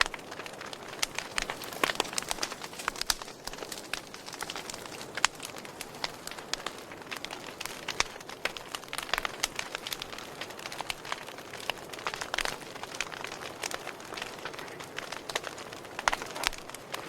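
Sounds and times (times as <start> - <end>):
campfire hissing and crackling: 0.0 - 17.0.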